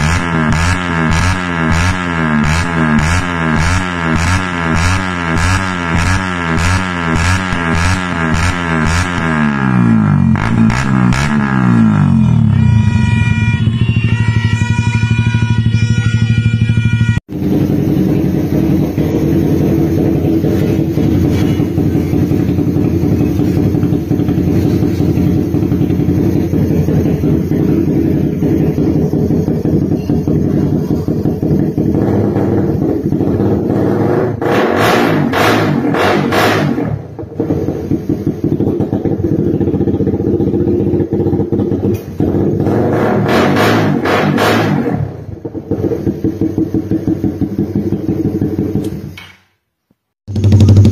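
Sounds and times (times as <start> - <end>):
motorcycle engine idling: 0.0 - 34.4, 36.7 - 43.2, 43.8 - 49.5, 50.3 - 50.9.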